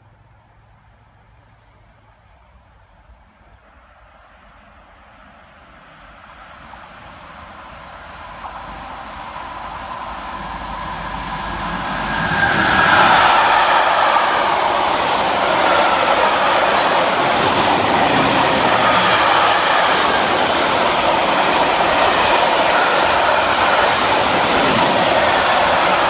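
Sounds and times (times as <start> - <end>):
freight train passing: 0.0 - 26.0.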